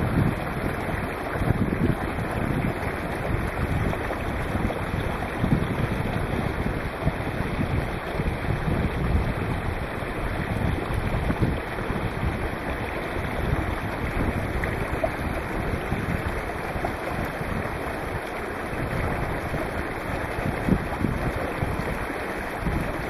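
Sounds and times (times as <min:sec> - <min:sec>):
stream rushing over rocks: 0:00.0 - 0:23.0
wind rumbling on microphone: 0:00.0 - 0:23.0.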